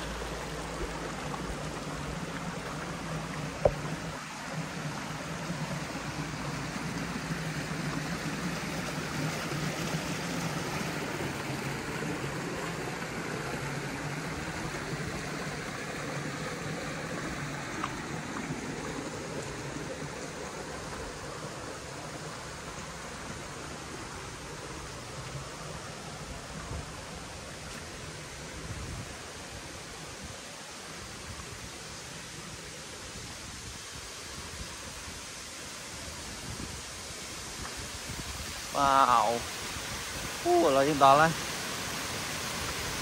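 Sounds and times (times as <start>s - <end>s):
stream running over rocks: 0.0s - 43.0s.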